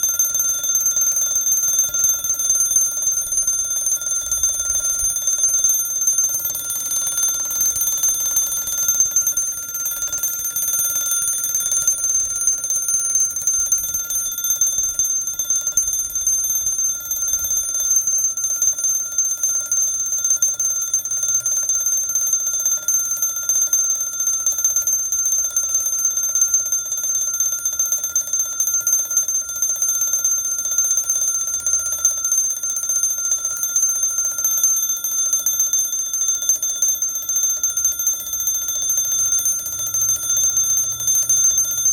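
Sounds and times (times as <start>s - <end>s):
alarm clock bell ringing: 0.0s - 41.9s.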